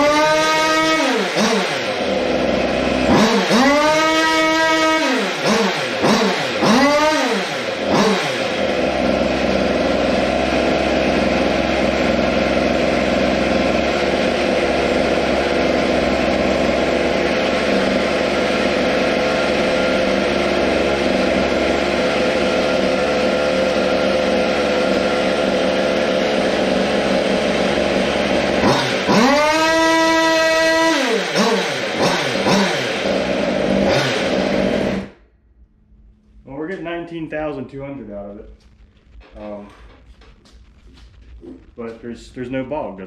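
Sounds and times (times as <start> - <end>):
two-stroke engine idling: 0.0 - 35.1.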